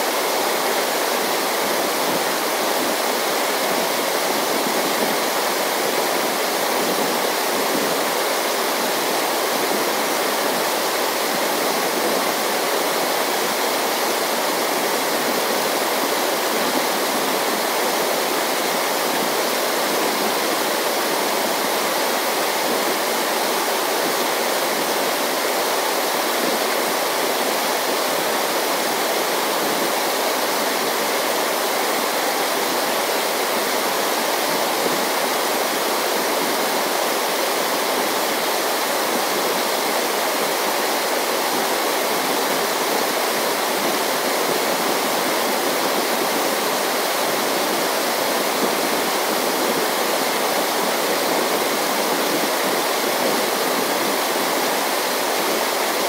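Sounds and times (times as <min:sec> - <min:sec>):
rush of running water: 0:00.0 - 0:56.0.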